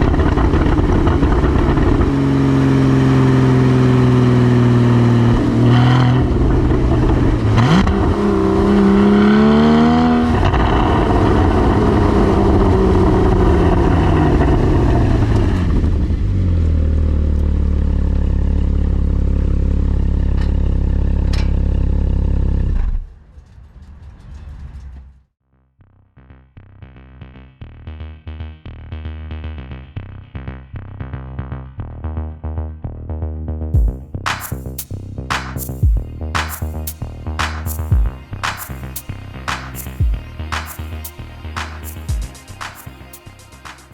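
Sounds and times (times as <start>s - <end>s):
car engine accelerating: 0.0s - 23.1s, 31.8s - 43.9s.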